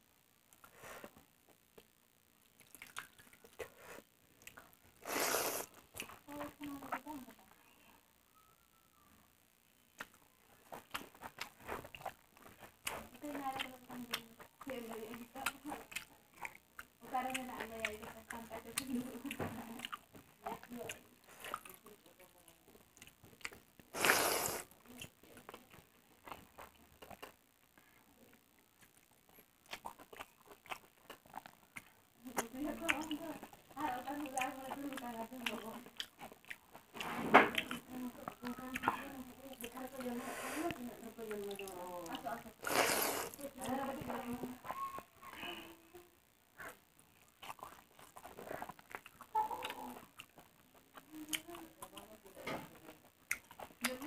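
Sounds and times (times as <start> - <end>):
person chewing with mouth smacks: 0.5 - 7.1, 9.9 - 45.4, 46.5 - 52.4, 53.0 - 54.0.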